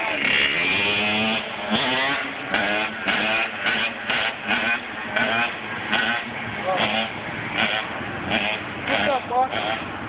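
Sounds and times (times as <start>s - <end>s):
off-road engine revving: 0.0s - 10.0s.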